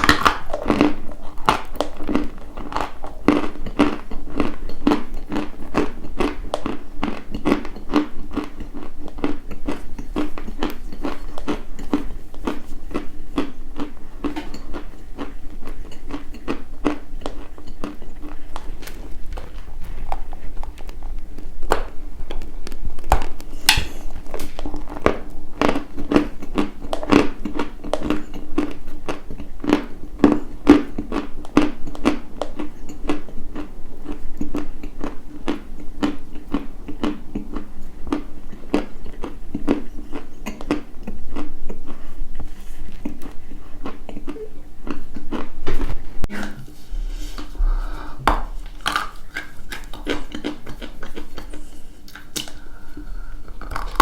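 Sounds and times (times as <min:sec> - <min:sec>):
chalk being chewed: 0:00.0 - 0:21.5, 0:24.4 - 0:53.2.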